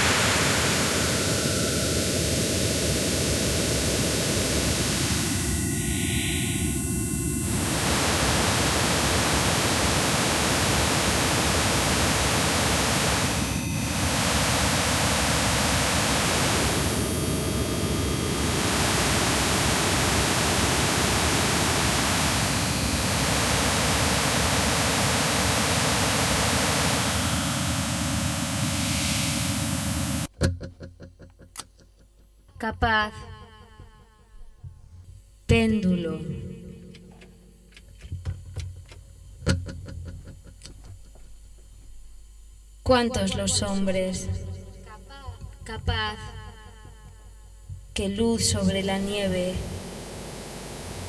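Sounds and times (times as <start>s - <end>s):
static-like noise music: 0.0s - 30.3s, 35.0s - 51.0s.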